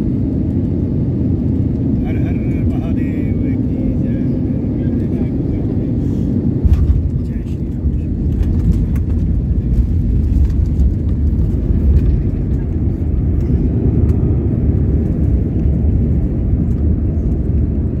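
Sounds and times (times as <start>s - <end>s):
jet engine rumble: 0.0s - 18.0s.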